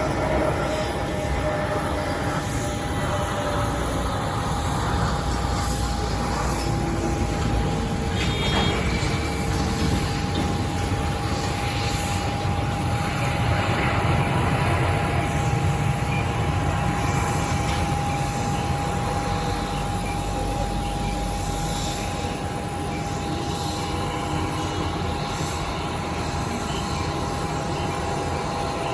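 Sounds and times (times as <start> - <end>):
airliner engines rumbling and whining: 0.0 - 28.9.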